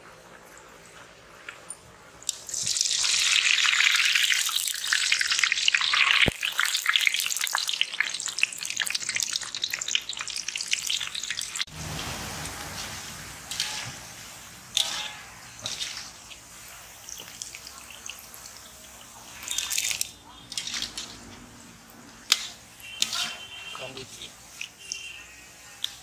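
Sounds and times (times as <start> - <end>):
dough balls deep-frying in oil: 0.0 - 26.0.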